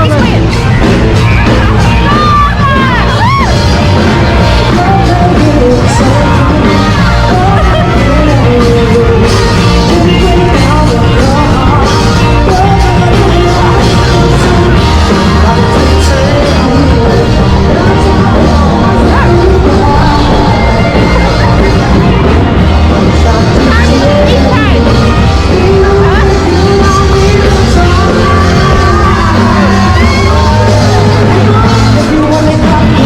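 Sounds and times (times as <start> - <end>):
loud rock music with singer: 0.0 - 33.0.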